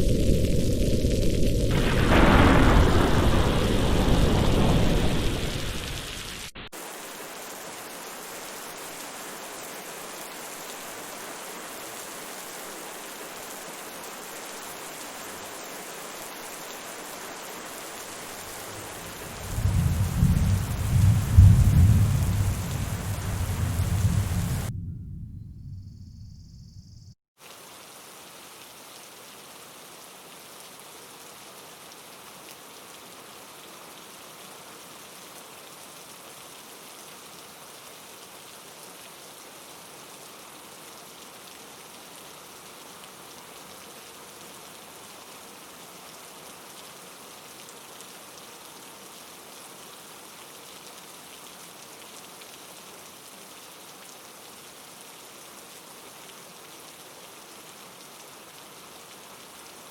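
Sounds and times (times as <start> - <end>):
steady rain falling: 0.0 - 24.8, 27.4 - 59.9.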